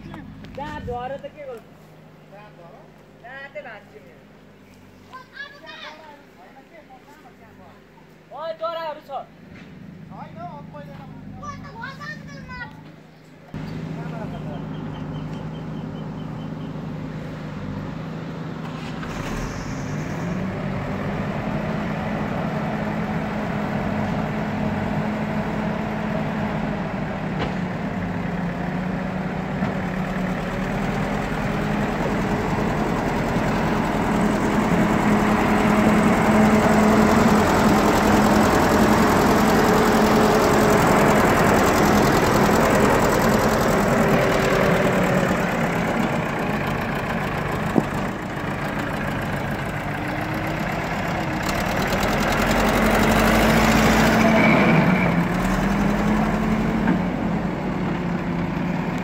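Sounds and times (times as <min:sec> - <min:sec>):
diesel engine running: 0:00.0 - 0:06.6, 0:09.2 - 0:59.0.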